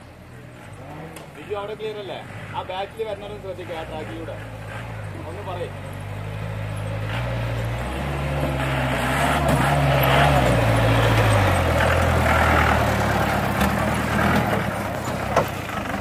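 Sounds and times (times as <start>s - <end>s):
off-road jeep engine revving: 0.0s - 16.0s.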